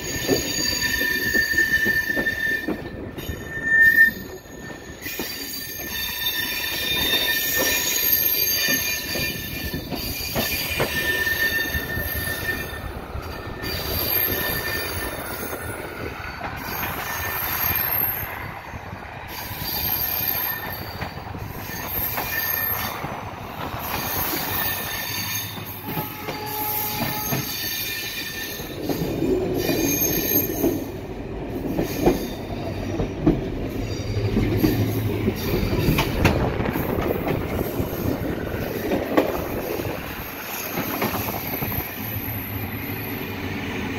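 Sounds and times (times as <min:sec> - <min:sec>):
train rumbling: 0:00.0 - 0:43.9
train wheels squealing: 0:00.0 - 0:43.9.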